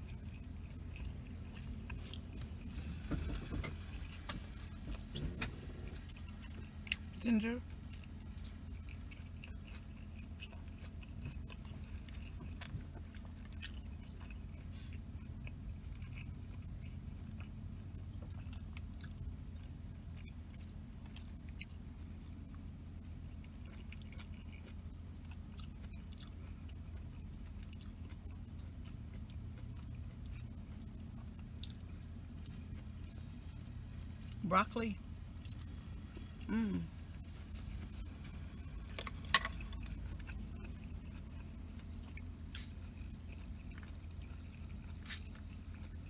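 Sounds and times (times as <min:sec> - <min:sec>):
person chewing food: 0:00.0 - 0:46.0
steady low hum: 0:00.0 - 0:46.0.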